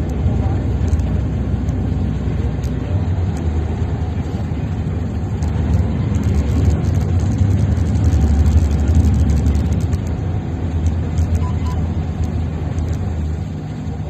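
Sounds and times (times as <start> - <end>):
tugboat engines rumbling: 0.0 - 14.0.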